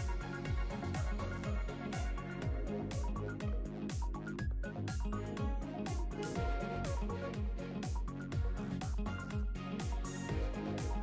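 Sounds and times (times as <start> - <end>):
background music: 0.0 - 11.0
deep kick drums: 0.0 - 11.0
light percussion: 0.0 - 11.0.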